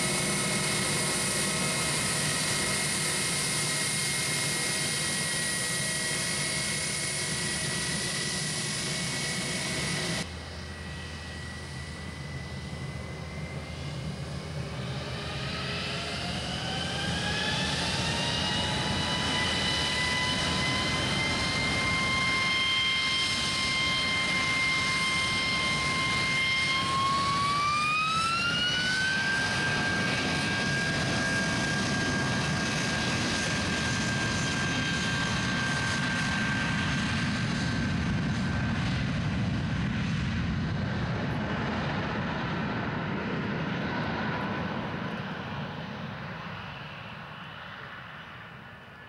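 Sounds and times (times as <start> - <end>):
jet engine fan whine: 0.0 - 49.0
jet rumble: 0.0 - 49.0.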